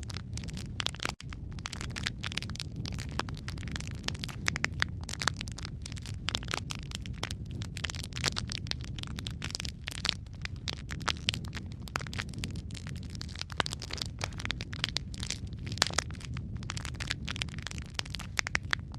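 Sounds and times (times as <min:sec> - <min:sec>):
low rumble of flames: 0:00.0 - 0:18.9
wood fire crackling: 0:00.0 - 0:18.9.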